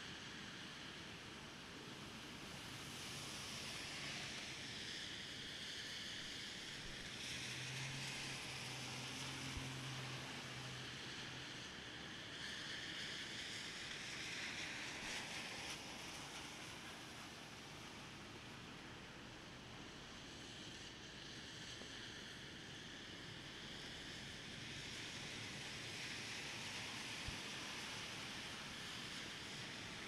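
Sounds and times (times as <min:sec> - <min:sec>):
vehicles passing on wet road: 0:00.1 - 0:30.0.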